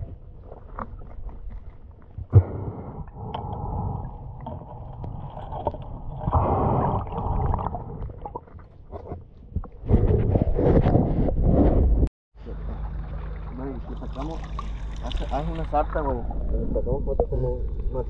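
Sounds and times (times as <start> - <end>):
underwater rumbling and gurgling: 0.0 - 18.0.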